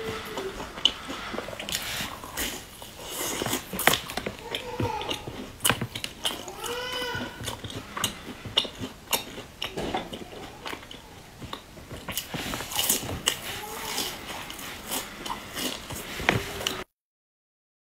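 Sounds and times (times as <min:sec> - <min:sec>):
chewing and biting cake: 0:00.0 - 0:16.9.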